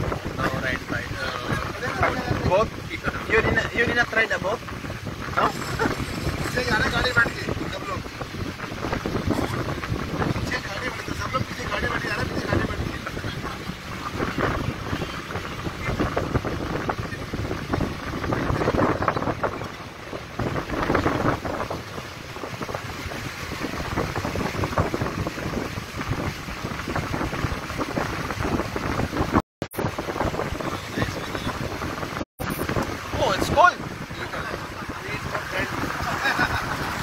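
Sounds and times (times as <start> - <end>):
vehicle road noise: 0.0 - 37.0
water rushing under tyres: 0.0 - 37.0
wind buffeting microphone: 0.0 - 37.0.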